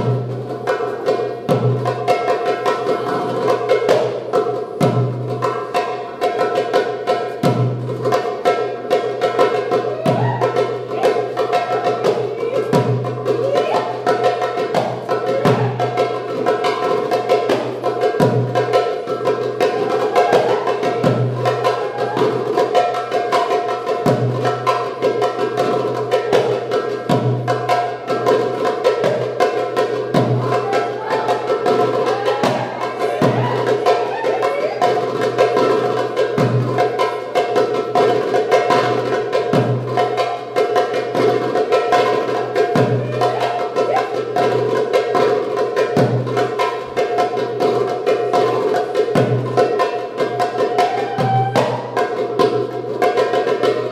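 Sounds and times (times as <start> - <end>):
hand drum strokes and rolls: 0.0 - 53.9.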